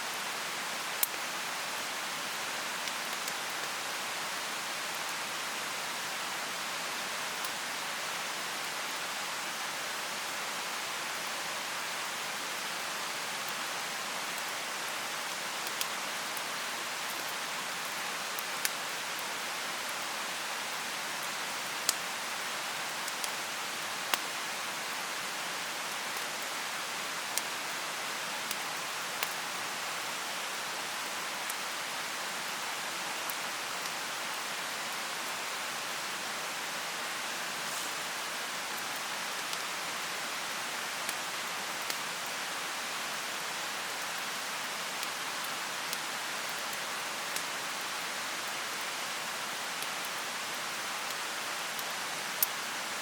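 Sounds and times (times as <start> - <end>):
mountain stream rushing: 0.0 - 53.0.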